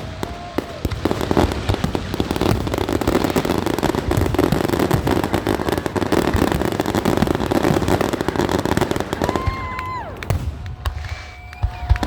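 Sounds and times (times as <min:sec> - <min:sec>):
fireworks crackling and thumping: 0:00.0 - 0:12.0
whistling firework tone: 0:00.0 - 0:12.0.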